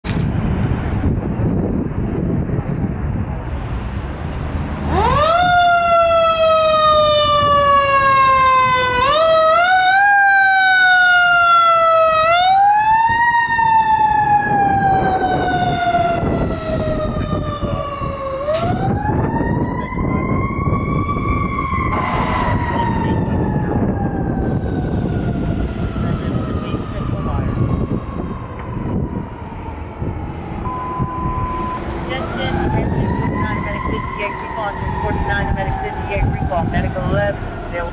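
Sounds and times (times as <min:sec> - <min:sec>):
truck engine rumbling: 0:00.0 - 0:37.9.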